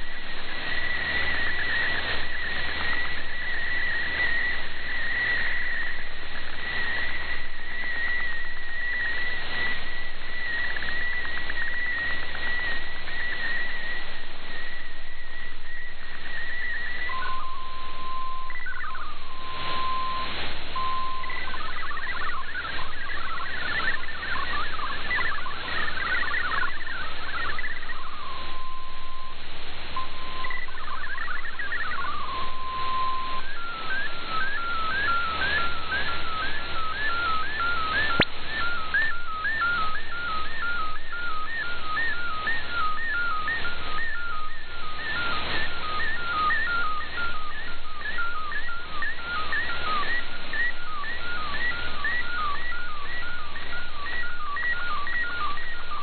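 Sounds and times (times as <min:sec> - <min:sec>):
high wavering data tone: 0:00.0 - 0:56.0
low steady data tone: 0:00.0 - 0:56.0
rapid warbling data tones: 0:00.0 - 0:56.0
shortwave radio static: 0:00.0 - 0:56.0.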